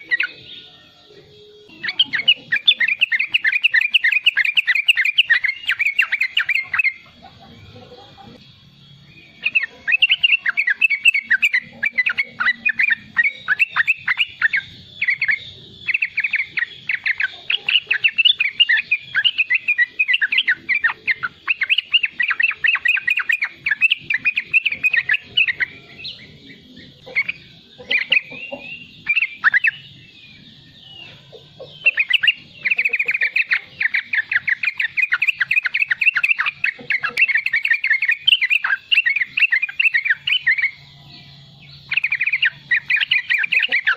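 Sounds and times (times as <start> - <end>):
bulbul chattering call: 0.0 - 8.5, 9.2 - 43.9.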